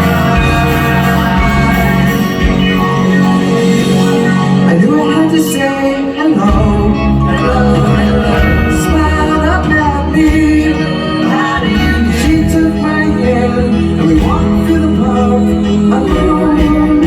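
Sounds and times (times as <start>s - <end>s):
guitar: 0.0s - 17.0s
live pop band playing: 0.0s - 17.0s
person singing: 0.0s - 17.0s.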